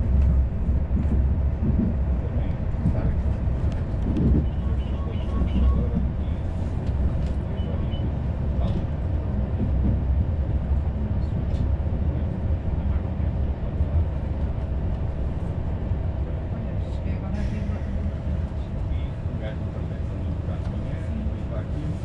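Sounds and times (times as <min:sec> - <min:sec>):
train coach low rumble: 0:00.0 - 0:22.0.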